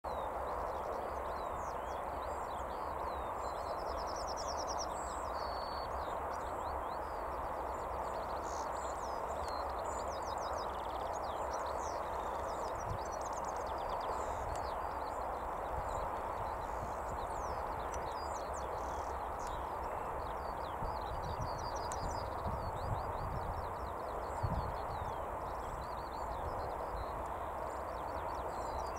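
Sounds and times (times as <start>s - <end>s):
songbirds singing and chirping: 0.0s - 28.9s
steady rushing background noise: 0.1s - 28.9s.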